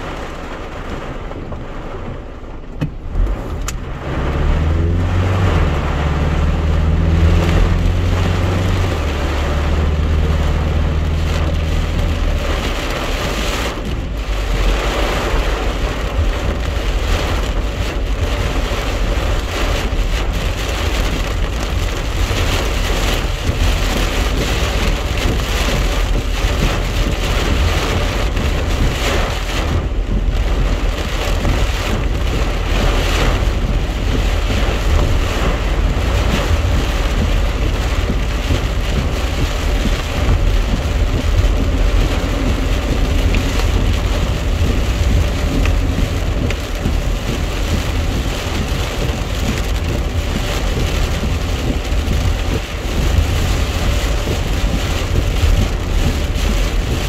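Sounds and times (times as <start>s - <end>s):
heavy rain on car roof: 0.0s - 57.0s
road noise rumble: 0.0s - 57.0s.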